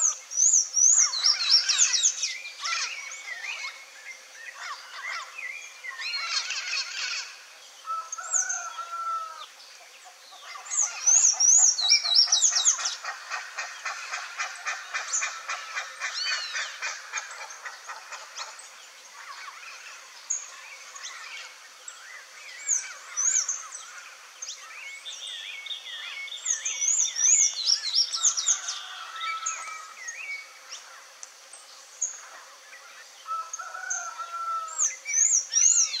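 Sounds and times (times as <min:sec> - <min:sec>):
songbirds singing and chirping: 0:00.0 - 0:36.0.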